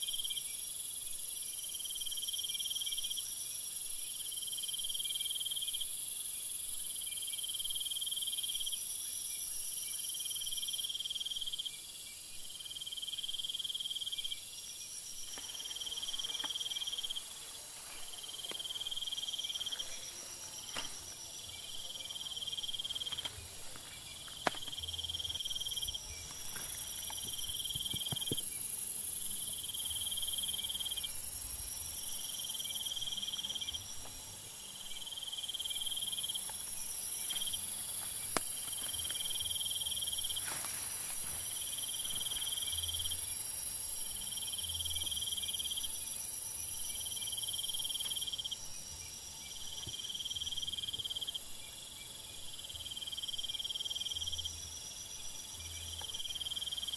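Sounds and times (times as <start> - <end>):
insects droning: 0.0 - 56.9
short insect call: 0.0 - 56.9.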